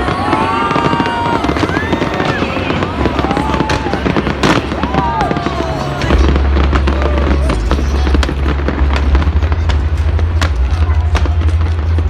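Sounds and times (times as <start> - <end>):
deep rumble of booms: 0.0 - 12.0
fireworks bangs and crackles: 0.0 - 12.0.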